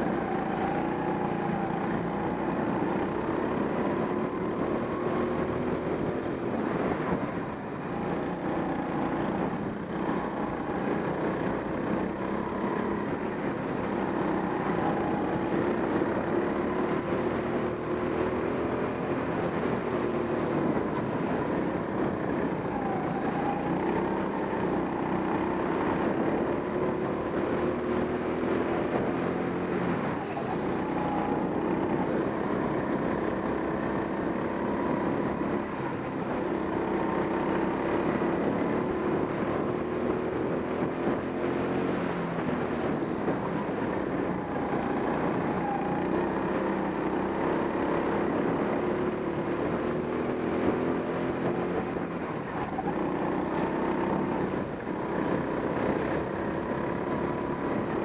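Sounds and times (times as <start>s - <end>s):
go-kart engine racing: 0.0s - 58.0s.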